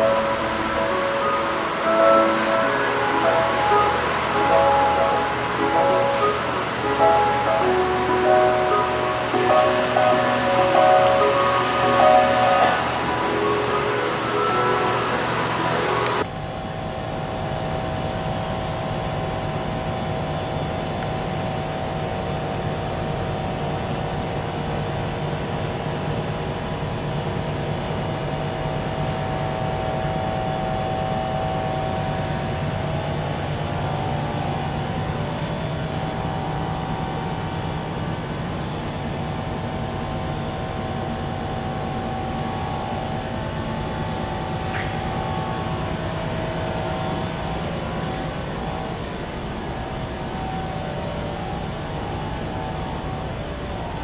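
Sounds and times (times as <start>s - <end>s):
constant hum: 0.0s - 54.0s
mechanical drone: 0.0s - 54.0s.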